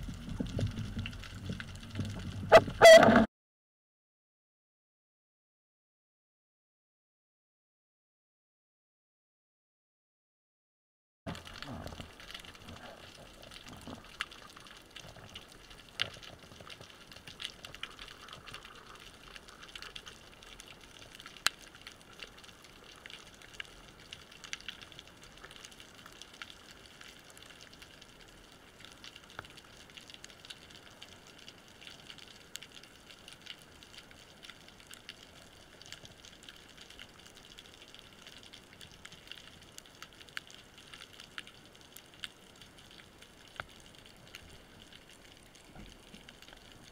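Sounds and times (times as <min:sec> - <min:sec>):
small clicks and crackles: 0:00.0 - 0:03.3, 0:11.3 - 0:46.9.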